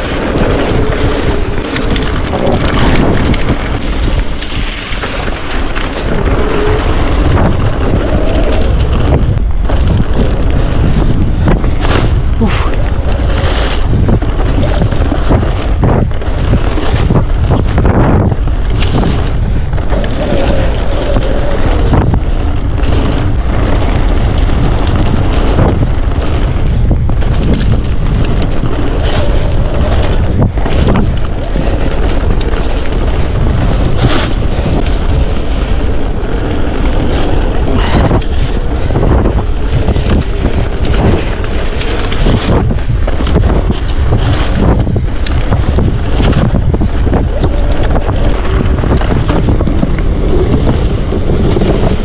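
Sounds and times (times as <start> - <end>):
bike rattling: 0.0 - 52.0
wind buffeting microphone: 0.0 - 52.0.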